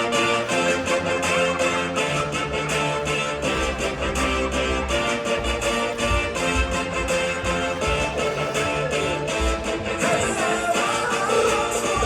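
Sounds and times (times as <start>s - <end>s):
strings and guitar music: 0.0s - 12.0s.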